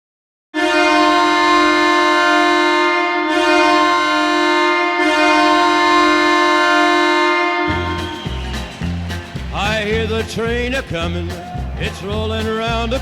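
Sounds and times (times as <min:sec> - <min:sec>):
goal horn blast: 0:00.6 - 0:11.8.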